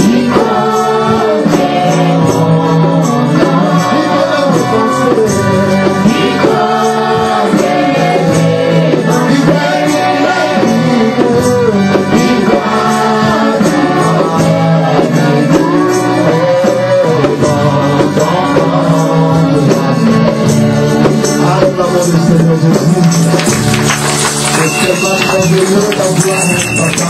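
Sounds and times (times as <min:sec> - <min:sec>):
gospel singing voices: 0:00.0 - 0:27.0
percussion beat: 0:00.0 - 0:27.0.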